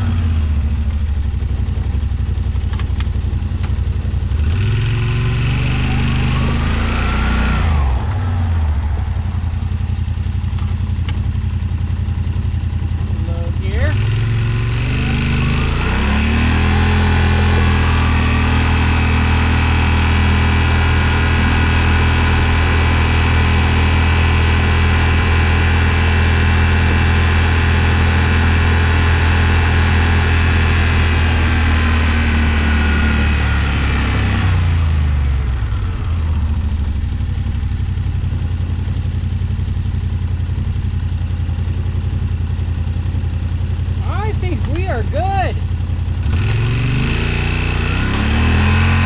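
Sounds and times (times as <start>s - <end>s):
engine revving and idling: 0.0s - 49.0s.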